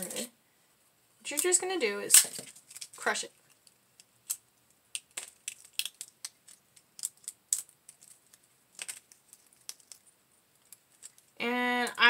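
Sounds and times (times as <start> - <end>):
pod shell cracking: 1.3 - 11.4.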